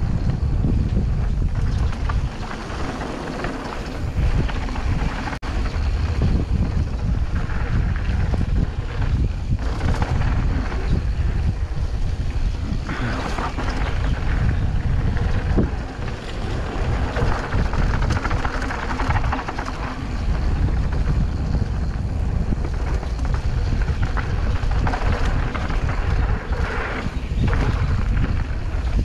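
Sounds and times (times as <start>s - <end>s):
bike knocks and rattles: 0.0s - 29.0s
bike tyres rolling on dirt: 0.0s - 29.0s
wind buffeting microphone: 0.0s - 29.0s.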